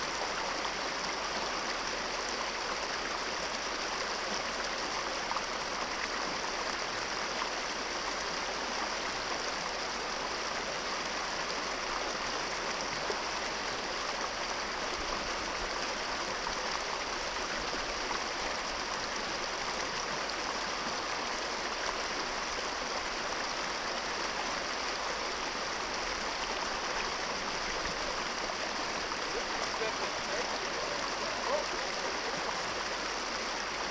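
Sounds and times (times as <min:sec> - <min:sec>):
brook water rushing over rocks: 0:00.0 - 0:33.9.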